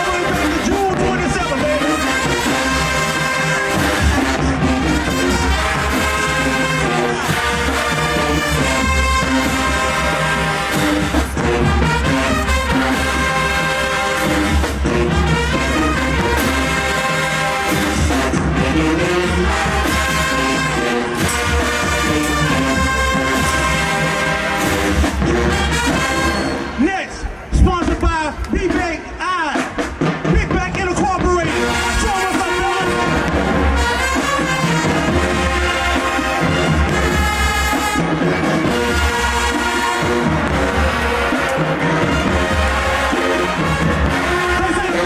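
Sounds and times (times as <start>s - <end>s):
brass holding chords: 0.0s - 27.0s, 31.4s - 45.0s
pounding drum line: 0.0s - 45.0s.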